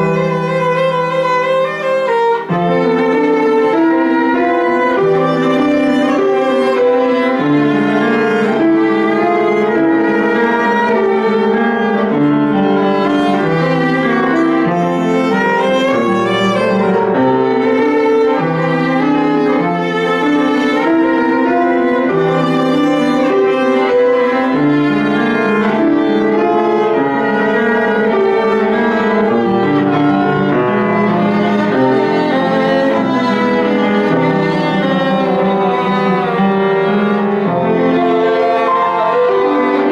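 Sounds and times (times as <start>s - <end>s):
piano accompaniment: 0.0s - 39.9s
violin melody: 0.0s - 39.9s.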